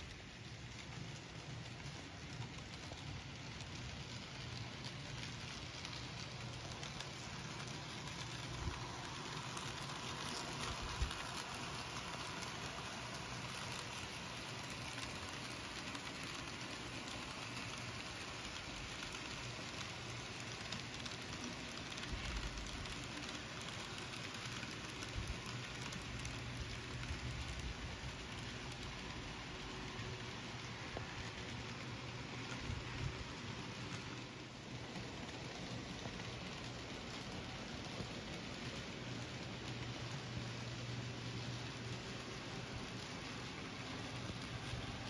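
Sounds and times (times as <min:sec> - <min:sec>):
model train wheels rattling: 0:00.0 - 0:45.0.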